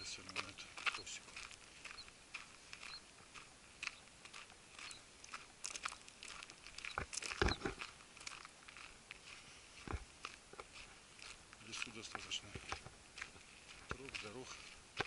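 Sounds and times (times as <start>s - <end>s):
footsteps crunching on gravel: 0.0s - 15.0s.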